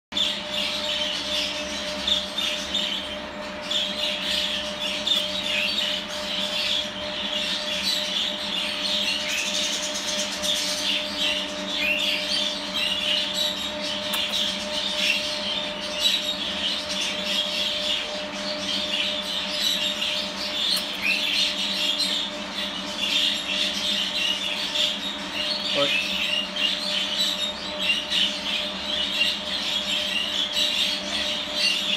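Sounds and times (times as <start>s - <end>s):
steady low hum: 0.1s - 31.9s
budgerigar chattering and chirping: 0.2s - 31.9s.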